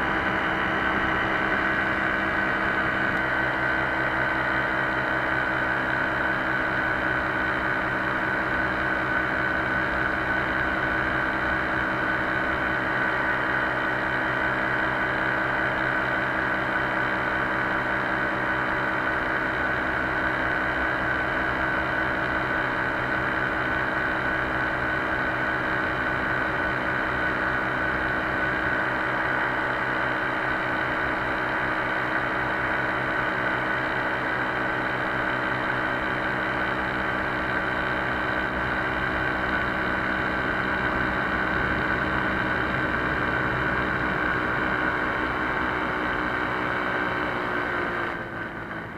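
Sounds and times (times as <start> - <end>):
paramotor engine and propeller: 0.0 - 48.9.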